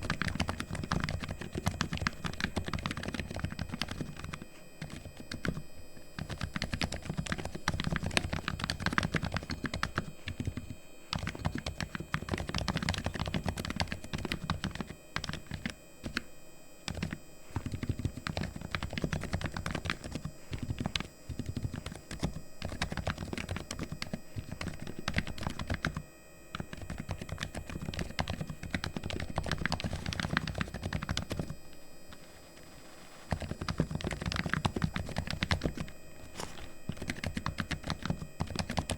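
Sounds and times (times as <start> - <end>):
keyboard typing: 0.0 - 16.3, 16.9 - 32.4, 33.0 - 38.9.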